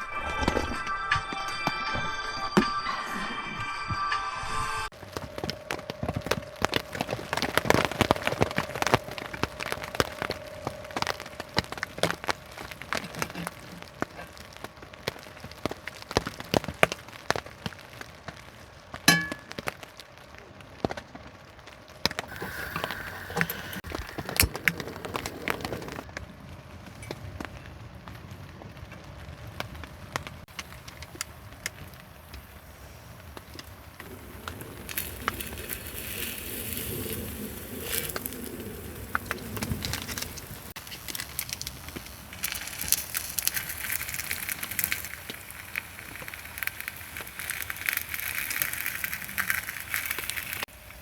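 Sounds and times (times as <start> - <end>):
rain pattering on a tent: 4.9 - 51.0.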